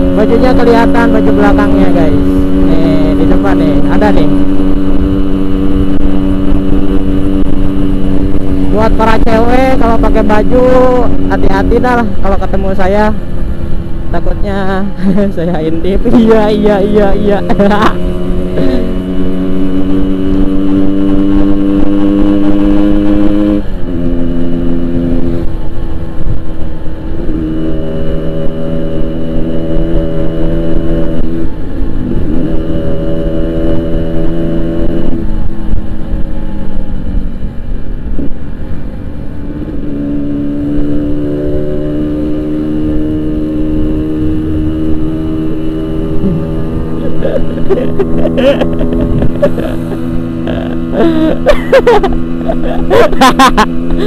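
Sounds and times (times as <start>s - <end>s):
motorcycle exhaust revving: 0.0s - 54.0s.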